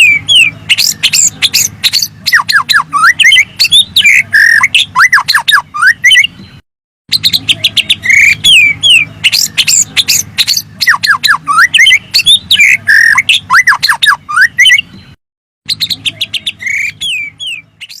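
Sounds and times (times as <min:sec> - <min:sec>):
bird song with whistles and squawks: 0:00.0 - 0:18.0.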